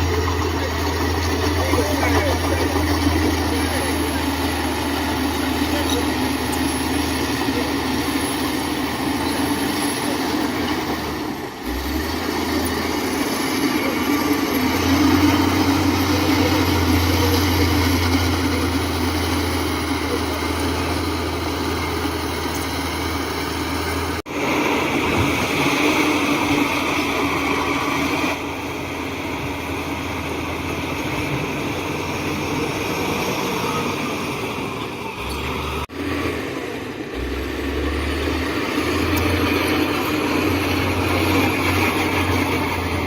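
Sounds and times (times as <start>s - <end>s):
heavy machinery engine hum: 0.0s - 43.0s.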